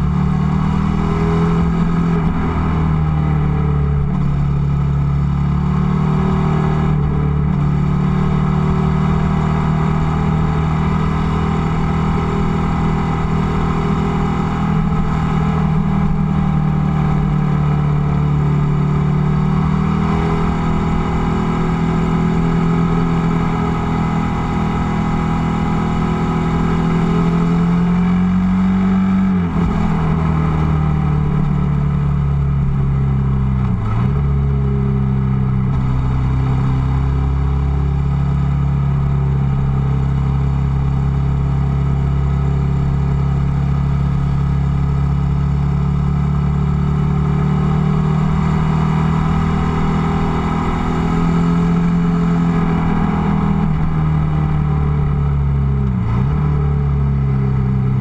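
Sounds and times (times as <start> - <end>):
motorcycle engine under way: 0.0 - 58.0.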